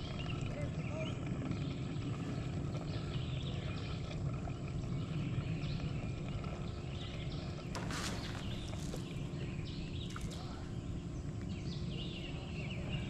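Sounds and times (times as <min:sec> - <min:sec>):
outdoor low rumble: 0:00.0 - 0:13.0.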